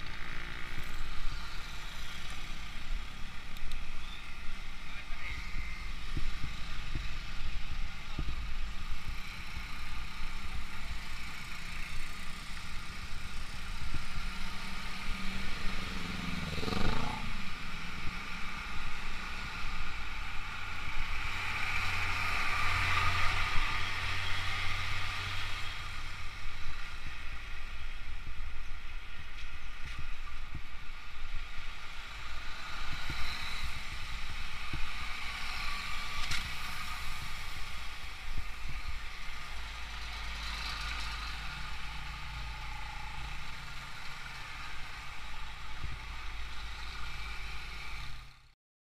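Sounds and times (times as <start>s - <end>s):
truck engines: 0.0s - 48.5s
road and wind noise: 0.0s - 48.6s.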